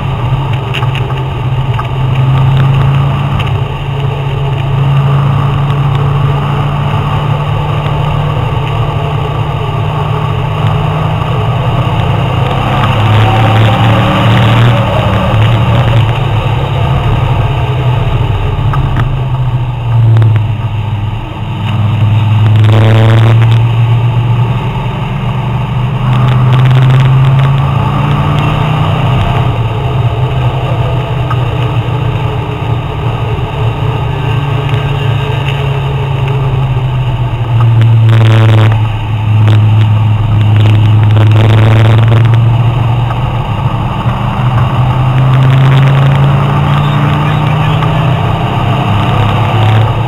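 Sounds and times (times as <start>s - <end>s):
sports car engine revving: 0.0s - 50.0s.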